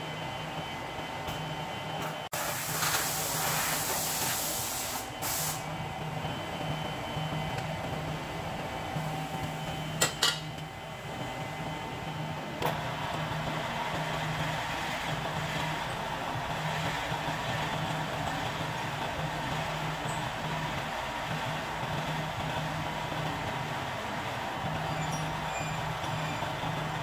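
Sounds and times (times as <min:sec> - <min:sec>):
machine hum with hiss: 0:00.0 - 0:27.0.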